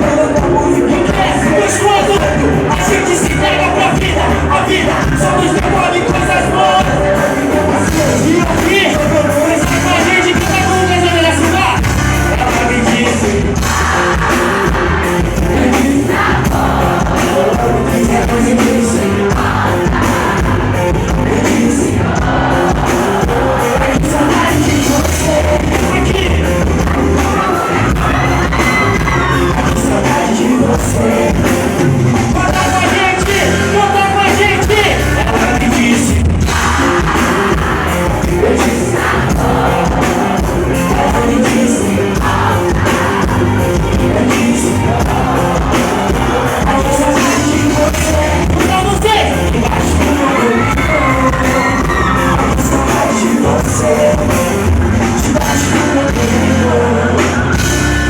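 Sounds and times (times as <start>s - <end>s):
person singing: 0.0s - 57.6s
live pop music with band: 0.0s - 58.0s.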